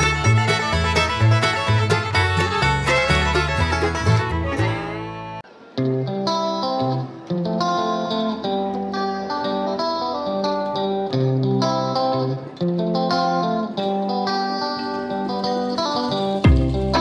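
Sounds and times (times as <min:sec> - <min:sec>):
plucked string tune: 0:00.0 - 0:17.0.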